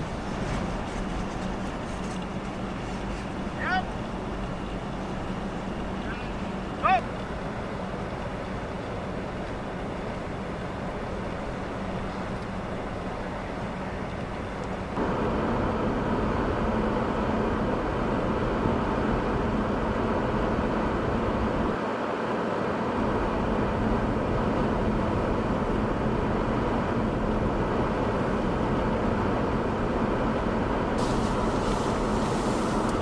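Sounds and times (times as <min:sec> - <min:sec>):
blizzard wind: 0:00.0 - 0:33.0
vehicle engine humming: 0:00.0 - 0:33.0.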